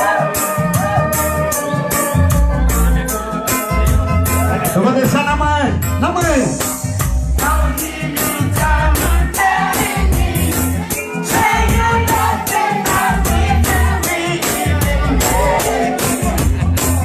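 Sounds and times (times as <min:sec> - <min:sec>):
heavy pulsing bass line: 0:00.0 - 0:17.0
reggae music through sound system: 0:00.0 - 0:17.0.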